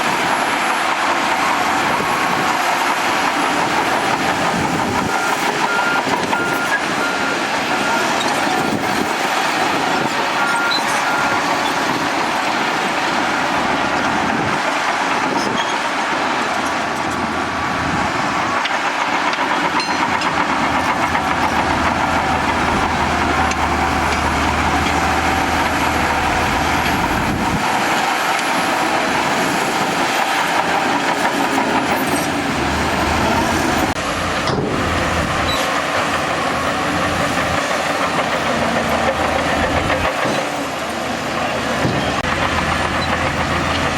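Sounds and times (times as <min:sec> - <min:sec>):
bulldozer diesel engine: 0:00.0 - 0:43.9.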